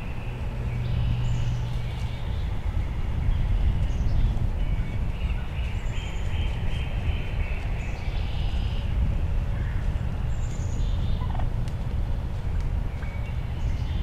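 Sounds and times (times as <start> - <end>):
wild birds calling: 0.0 - 11.5
steady low rumble: 0.0 - 14.0.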